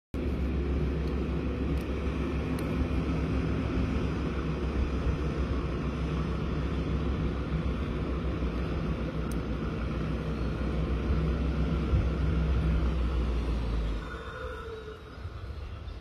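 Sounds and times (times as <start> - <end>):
heavy diesel engines droning: 0.2 - 16.0.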